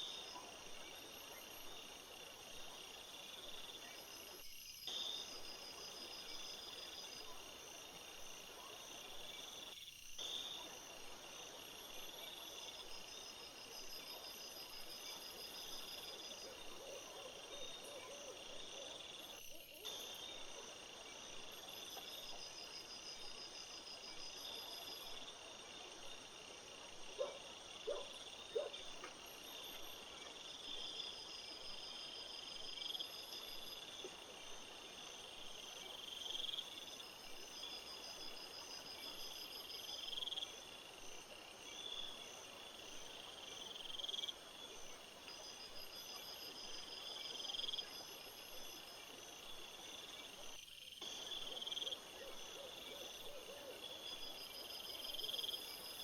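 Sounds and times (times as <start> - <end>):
crickets and insects chirping: 0.0 - 56.0.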